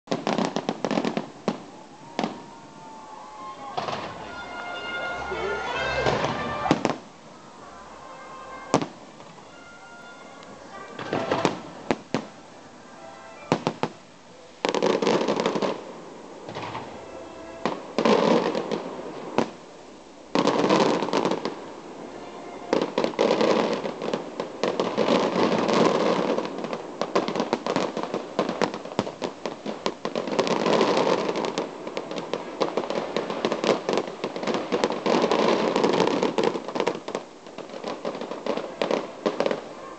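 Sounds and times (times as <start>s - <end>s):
fireworks bangs pops and crackling: 0.1s - 3.0s, 3.6s - 7.1s, 8.0s - 12.4s, 13.3s - 14.0s, 14.6s - 19.7s, 20.3s - 39.9s.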